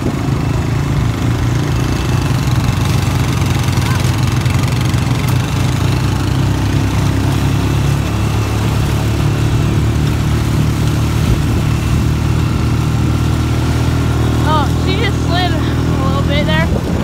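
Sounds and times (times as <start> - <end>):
atv engine low hum: 0.0 - 17.0.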